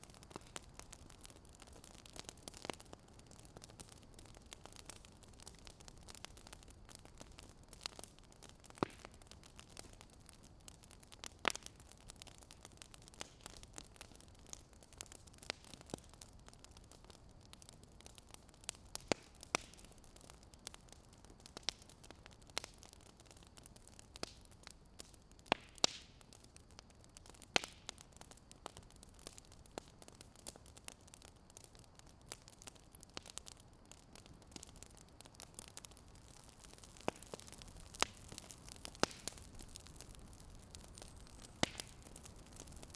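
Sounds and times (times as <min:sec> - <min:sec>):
faint steady hiss: 0:00.0 - 0:42.9
fire crackling: 0:00.0 - 0:42.9.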